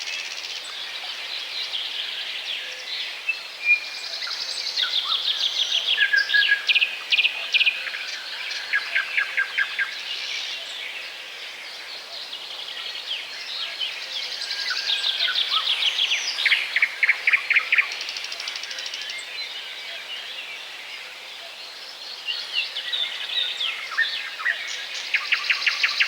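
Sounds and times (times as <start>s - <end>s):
small songbirds chirping: 0.0s - 26.0s
steady background hiss: 0.0s - 26.0s.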